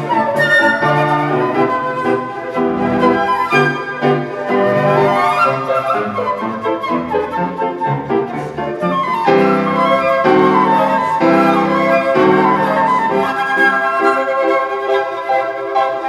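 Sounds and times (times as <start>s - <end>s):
flute melody: 0.0s - 16.0s
piano accompaniment: 0.0s - 16.0s.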